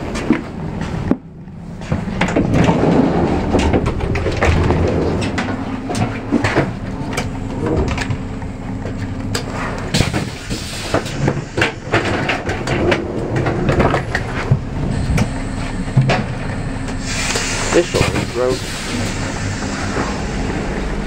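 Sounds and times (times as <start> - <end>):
sharp clicks and clunks: 0.0 - 18.3
train carriage rumbling: 0.0 - 21.0.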